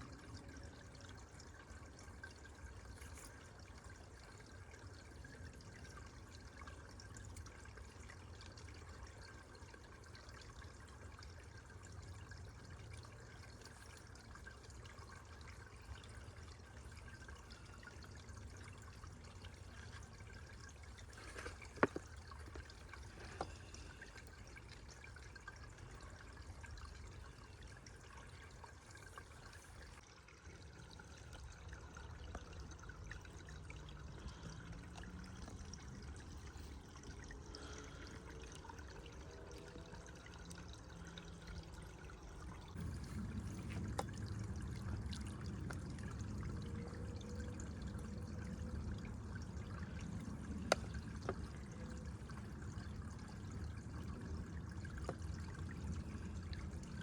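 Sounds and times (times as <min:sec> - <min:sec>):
water pouring and trickling: 0:00.0 - 0:57.0.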